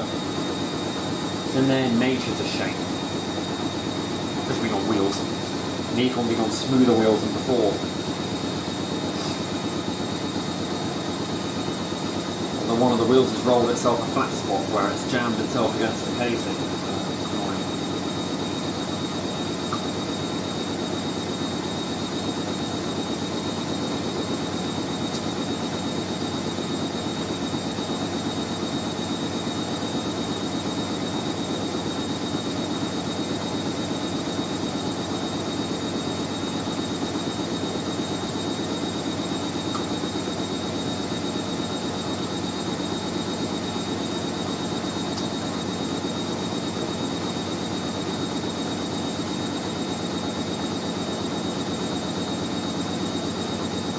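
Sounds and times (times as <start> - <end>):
high motor whine: 0.0 - 53.9.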